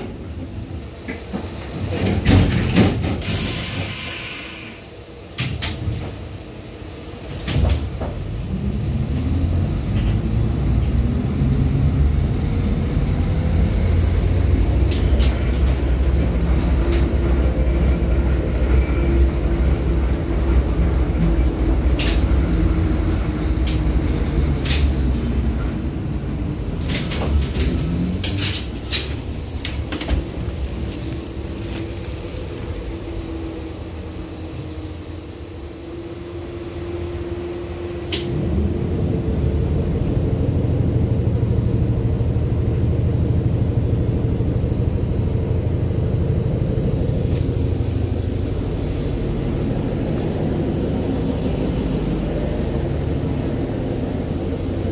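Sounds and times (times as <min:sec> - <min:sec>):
tram hiss: 0:00.0 - 0:54.9
tram motor whine and rumble: 0:00.0 - 0:54.9.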